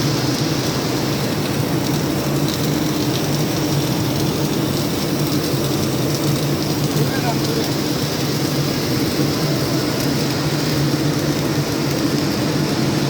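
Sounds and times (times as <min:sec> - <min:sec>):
welding arc crackling and spattering: 0:00.0 - 0:13.0.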